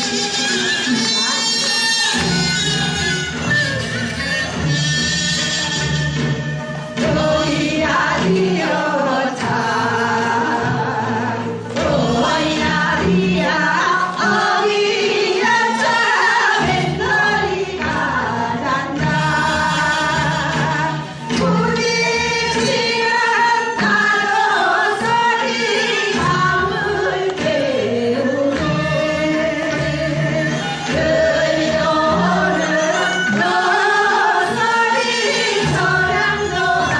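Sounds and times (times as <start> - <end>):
group singing with instruments: 0.0 - 36.9.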